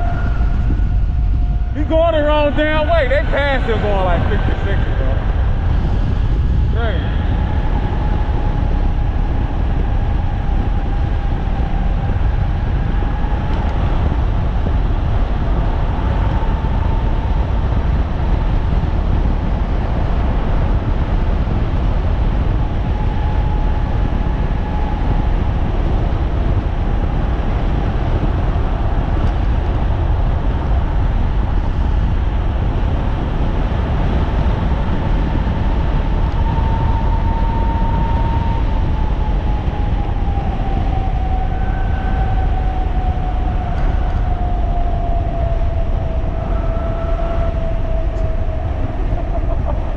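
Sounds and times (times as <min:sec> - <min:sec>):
high electric motor whine: 0:00.0 - 0:49.9
wind rumble on microphone: 0:00.0 - 0:49.9.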